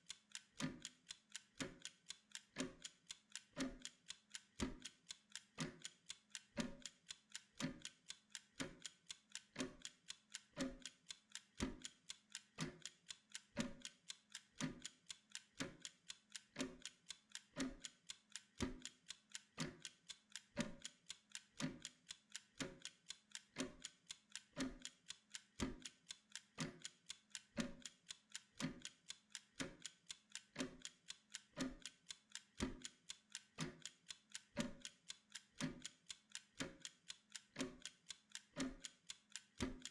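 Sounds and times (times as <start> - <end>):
kitchen timer ticking: 0.0 - 39.9.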